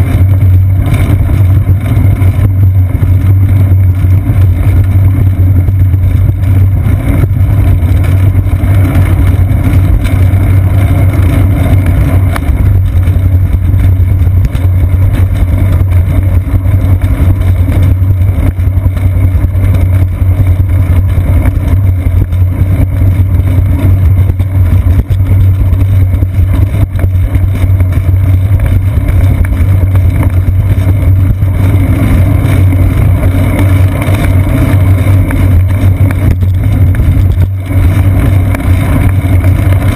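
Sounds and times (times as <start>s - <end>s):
bicycle road vibration: 0.0s - 39.9s
wind rumble: 0.0s - 39.9s.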